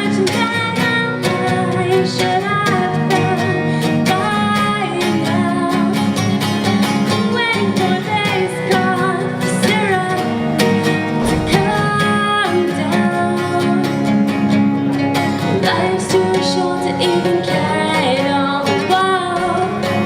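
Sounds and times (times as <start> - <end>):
woman singing: 0.0 - 6.3, 7.0 - 10.4, 11.3 - 14.3, 15.4 - 20.0
acoustic guitar strumming: 0.0 - 20.0.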